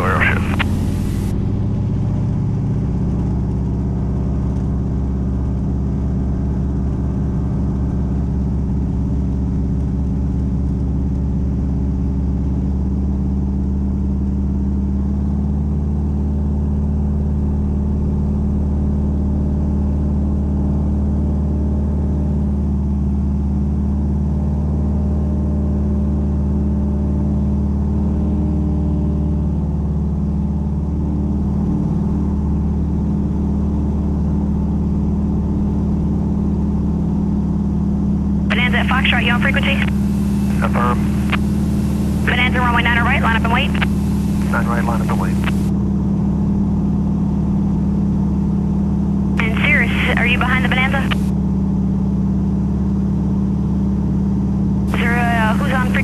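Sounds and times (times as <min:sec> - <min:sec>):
radial aircraft engine and propeller: 0:00.0 - 0:56.0.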